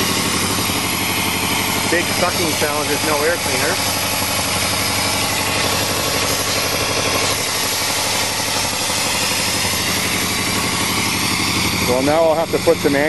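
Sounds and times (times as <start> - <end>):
engine idling roughly: 0.0 - 13.0.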